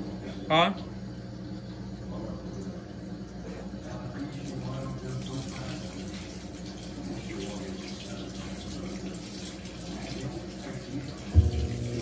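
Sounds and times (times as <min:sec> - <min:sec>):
water running into washing machine: 0:00.0 - 0:12.0.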